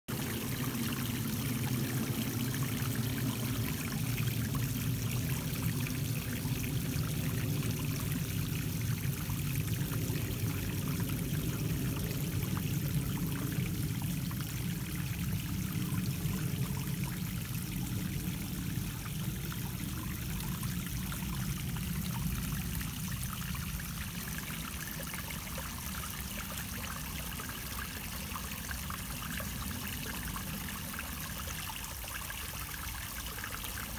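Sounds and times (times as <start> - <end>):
waterfall splashing into pond: 0.1 - 33.9.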